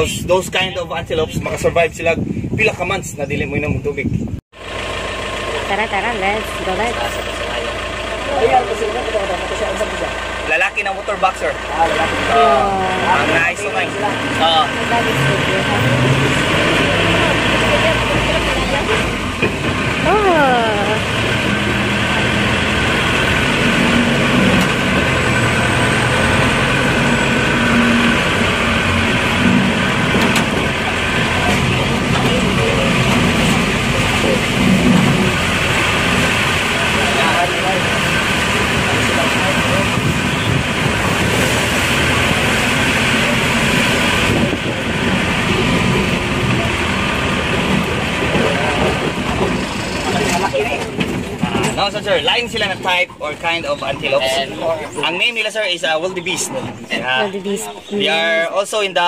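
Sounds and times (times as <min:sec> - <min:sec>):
road noise: 0:00.0 - 0:59.0
vehicle engine drone: 0:04.5 - 0:59.0.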